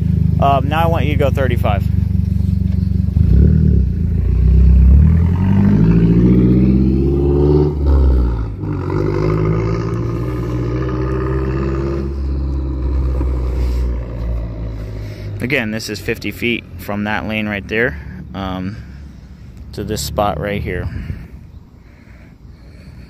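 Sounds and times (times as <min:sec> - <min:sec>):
car engine accelerating hard: 0:00.0 - 0:20.8
loud exhaust: 0:00.0 - 0:23.0.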